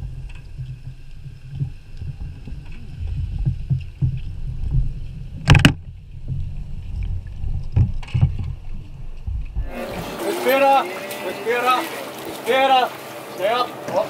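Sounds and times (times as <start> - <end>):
underwater rumble of moving water: 0.0 - 14.0.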